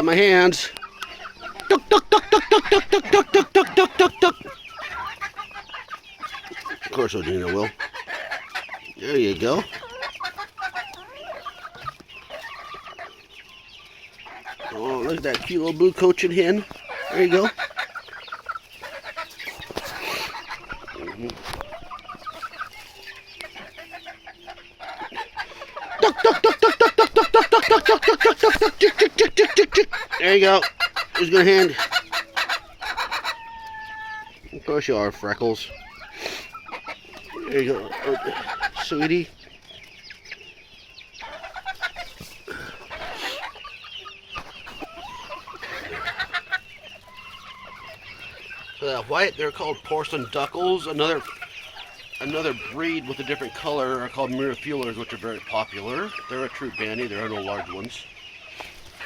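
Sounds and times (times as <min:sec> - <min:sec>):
chickens clucking and peeping: 0:00.0 - 0:59.0
rapid repeated chicken calls: 0:00.0 - 0:59.0.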